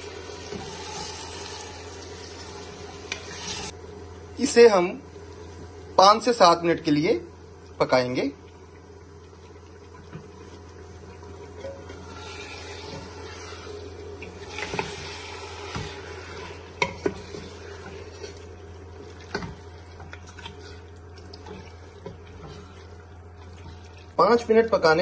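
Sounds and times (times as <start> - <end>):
meat sizzling in a pot: 0.0 - 25.0.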